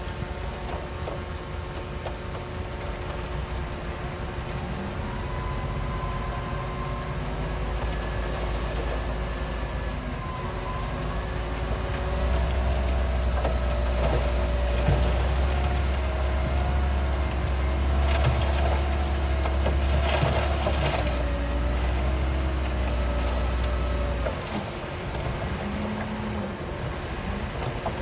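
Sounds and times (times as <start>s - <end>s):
heavy diesel machinery drone: 0.0s - 28.0s.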